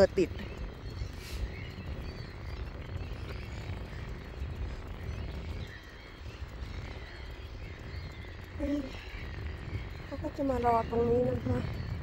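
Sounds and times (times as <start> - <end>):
faint high chirping calls: 0.0 - 12.0
wind buffeting microphone: 0.0 - 12.0.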